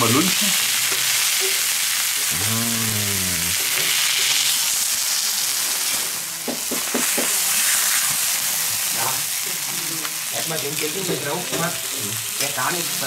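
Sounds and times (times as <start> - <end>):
steaks sizzling on a hot plate: 0.0 - 13.0.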